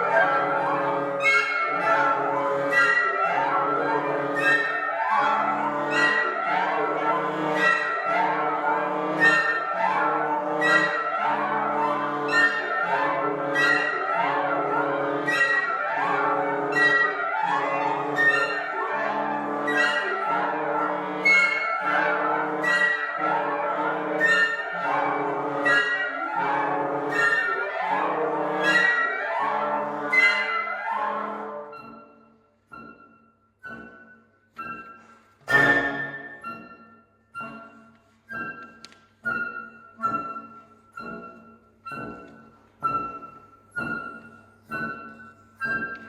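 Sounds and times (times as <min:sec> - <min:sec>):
wind sextet playing classical piece: 0:00.0 - 0:46.0.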